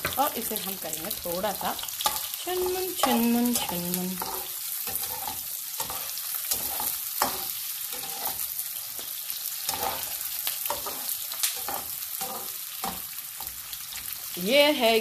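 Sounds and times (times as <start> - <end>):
onions sizzling in hot oil: 0.0 - 15.0
spatula scraping and tapping pan: 1.0 - 14.1.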